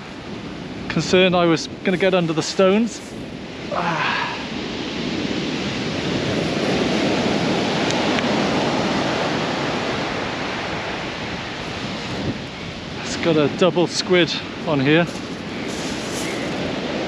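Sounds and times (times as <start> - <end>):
surf breaking on shingle beach: 0.0 - 17.0.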